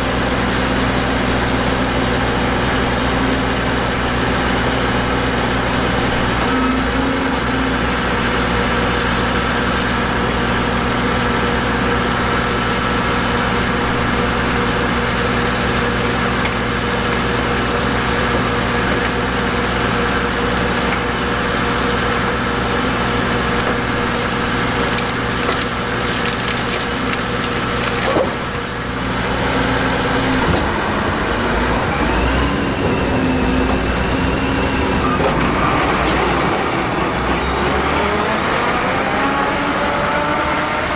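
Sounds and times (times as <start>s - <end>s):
combine engine hum: 0.0s - 40.9s
corn stalks crackling and snapping: 0.1s - 36.6s.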